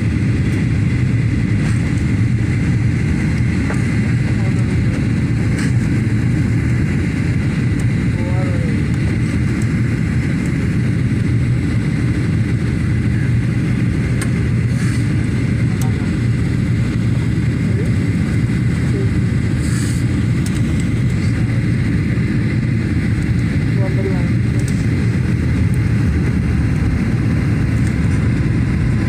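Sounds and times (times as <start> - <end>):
jet engines roaring in cabin: 0.0 - 29.0.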